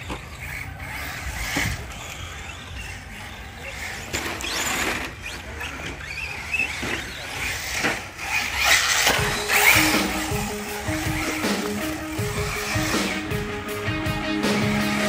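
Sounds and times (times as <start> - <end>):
radio-controlled cars running: 0.0 - 13.4.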